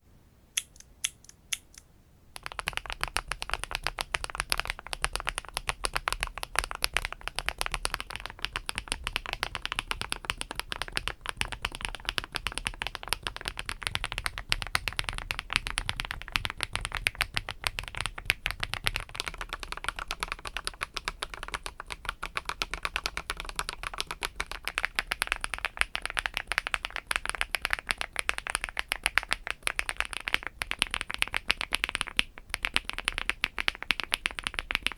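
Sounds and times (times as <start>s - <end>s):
mechanical keyboard typing: 2.4s - 34.9s.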